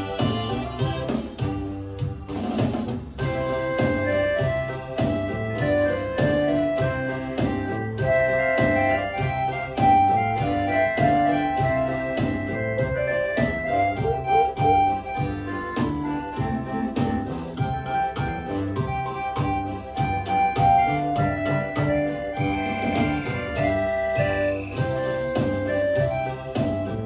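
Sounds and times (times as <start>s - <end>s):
backing track with steady beat: 0.0s - 27.0s
electronic keyboard ensemble: 0.0s - 27.0s.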